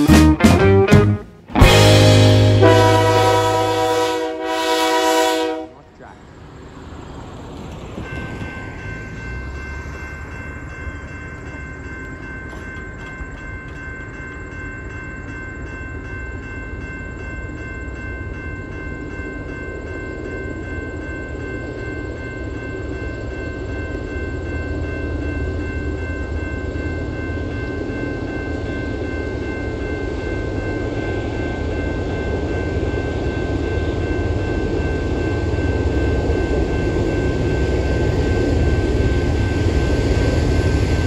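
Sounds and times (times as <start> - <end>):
freight train rumble: 0.0 - 41.0
railroad crossing bell ringing: 1.3 - 41.0.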